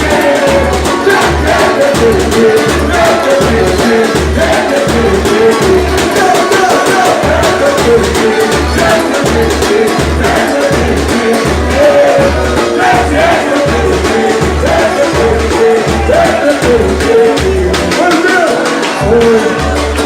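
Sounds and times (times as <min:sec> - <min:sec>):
voices singing: 0:00.0 - 0:20.0.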